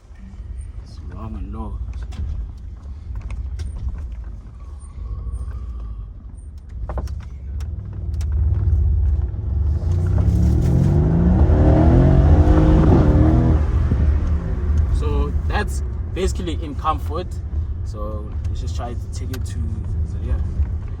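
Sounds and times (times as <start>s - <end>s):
car engine rumbling and accelerating: 0.0s - 21.0s
road noise: 0.0s - 21.0s.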